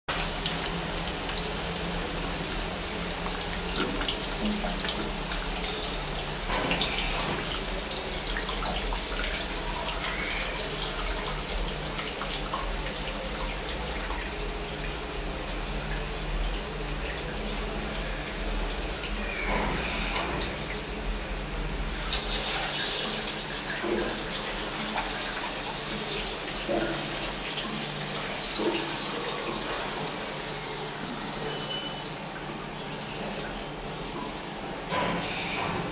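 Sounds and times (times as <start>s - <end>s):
liquid gushing into a tank: 0.1s - 35.9s.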